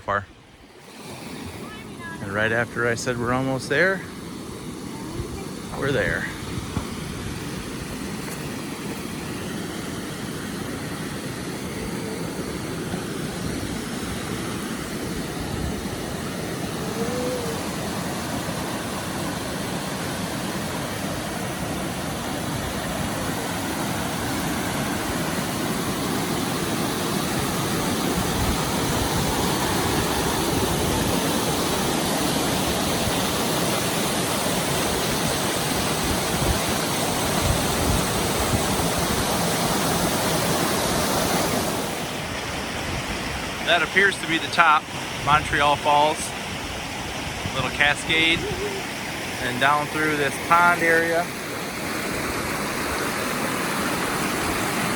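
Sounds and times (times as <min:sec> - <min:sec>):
waterfall rushing water: 0:00.0 - 0:54.9.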